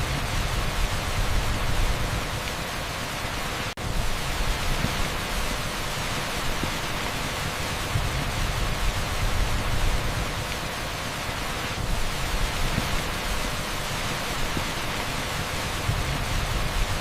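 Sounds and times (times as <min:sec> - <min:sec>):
torrential rain on asphalt: 0:00.0 - 0:17.0.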